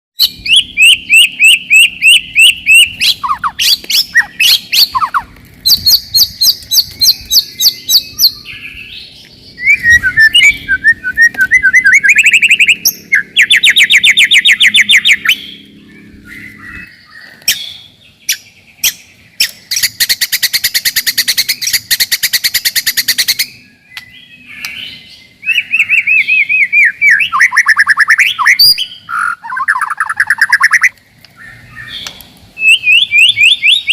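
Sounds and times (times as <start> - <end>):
songbird singing trills and whistles: 0.2 - 33.9.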